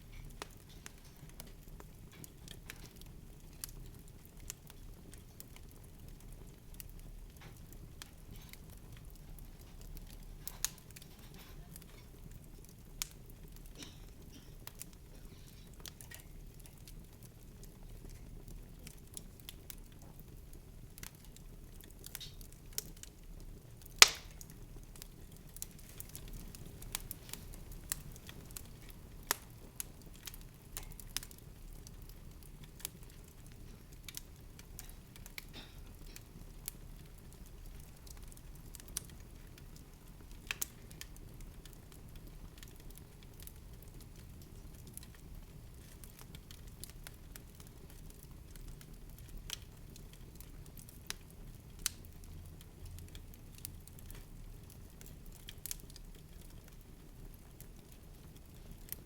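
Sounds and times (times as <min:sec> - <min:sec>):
soft clicks and crackles: 0:00.0 - 0:59.0.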